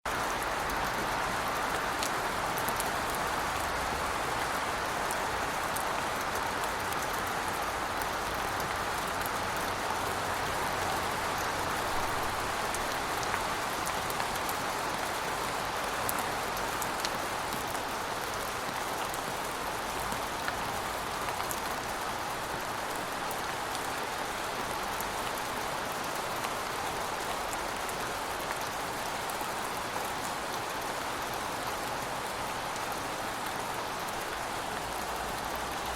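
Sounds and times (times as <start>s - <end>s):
rain falling on city surfaces: 0.1s - 35.9s.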